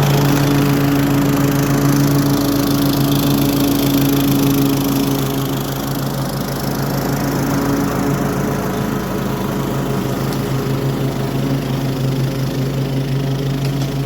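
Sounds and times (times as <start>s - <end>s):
lawn mower engine mowing: 0.0s - 14.0s.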